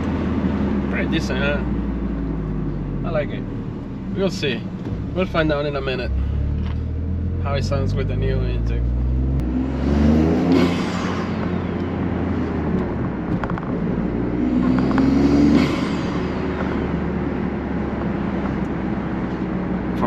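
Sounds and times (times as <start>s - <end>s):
turbocharged car engine revving: 0.0s - 20.0s.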